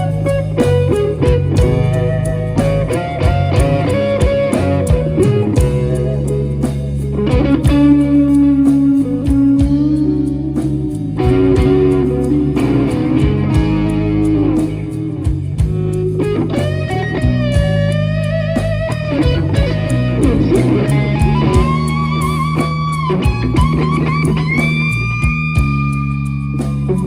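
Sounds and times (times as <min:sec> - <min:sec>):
bass and drums: 0:00.0 - 0:27.0
electric guitar lead: 0:00.0 - 0:27.0.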